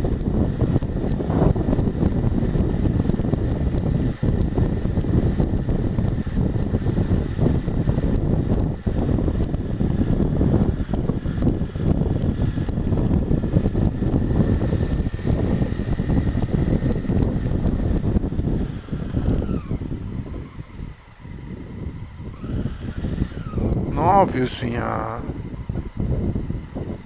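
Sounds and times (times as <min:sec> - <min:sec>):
motorcycle engine running: 0:00.0 - 0:24.2, 0:25.2 - 0:27.0
wind buffeting microphone: 0:00.0 - 0:27.0.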